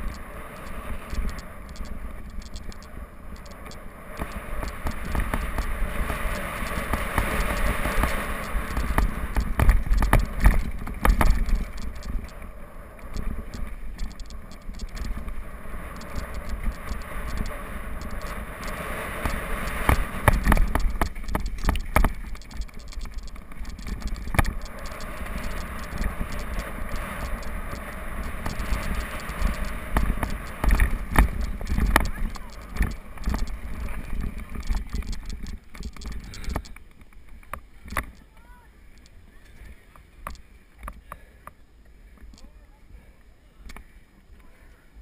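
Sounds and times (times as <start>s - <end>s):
bike knocking and rattling: 1.1s - 38.5s.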